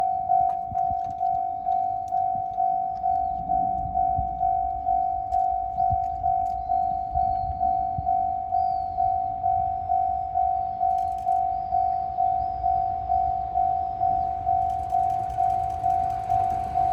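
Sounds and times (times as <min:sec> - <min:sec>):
level crossing warning bell: 0:00.0 - 0:16.9.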